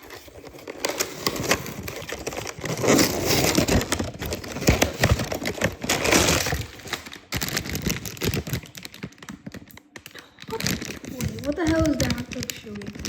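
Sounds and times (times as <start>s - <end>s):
packaging tearing and crumpling: 0.0s - 13.0s.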